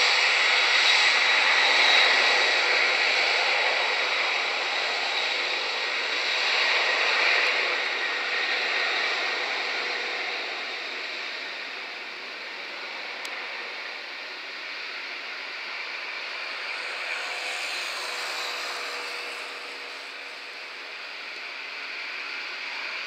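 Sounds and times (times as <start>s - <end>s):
jet airliner taking off: 0.0s - 23.0s.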